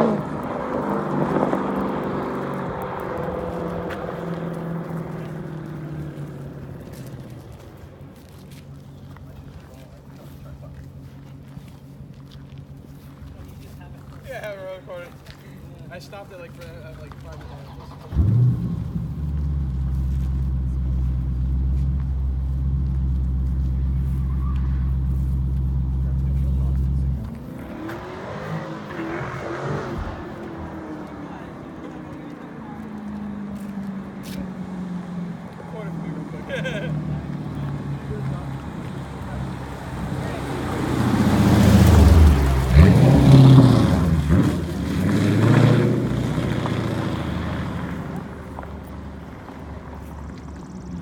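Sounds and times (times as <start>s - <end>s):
engine idling rumble: 0.0s - 28.6s, 30.0s - 51.0s.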